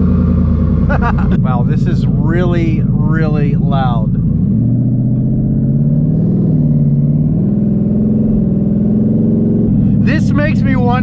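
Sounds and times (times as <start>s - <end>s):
deep car exhaust drone: 0.0s - 11.0s.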